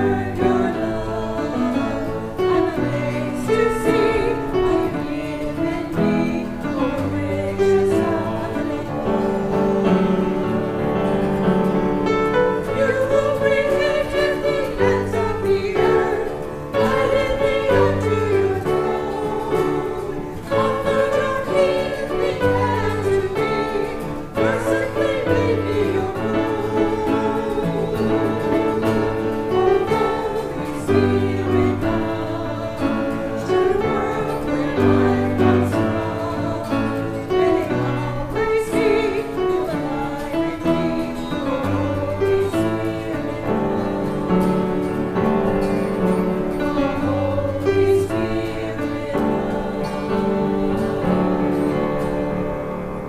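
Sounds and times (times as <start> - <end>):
choir singing a hymn: 0.0 - 53.0
instrumental accompaniment: 0.0 - 53.0.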